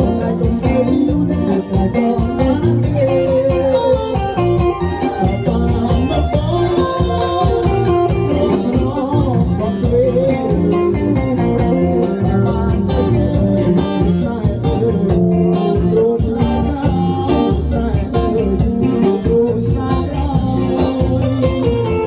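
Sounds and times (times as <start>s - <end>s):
live band playing dance music: 0.0s - 22.0s
person singing: 0.0s - 22.0s.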